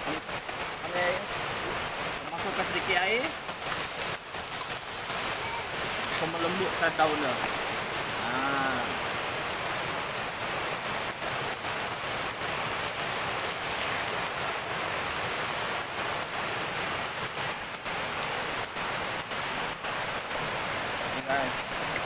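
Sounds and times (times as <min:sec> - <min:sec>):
leaves sizzling in pan: 0:00.0 - 0:22.0.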